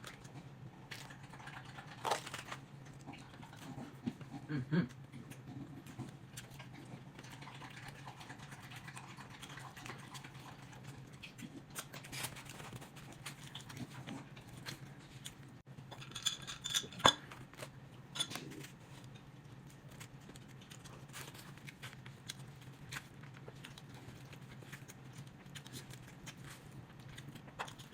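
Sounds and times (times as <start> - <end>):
person chewing food: 0.0 - 15.6, 17.2 - 27.9.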